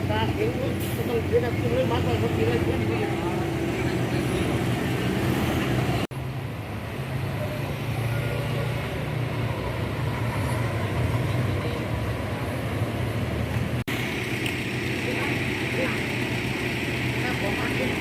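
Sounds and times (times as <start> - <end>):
coach engine humming: 0.0 - 18.0
traffic noise: 0.0 - 18.0.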